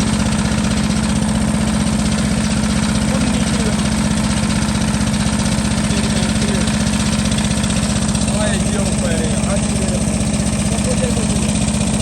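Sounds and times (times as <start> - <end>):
drilling rig engine running: 0.0 - 12.0.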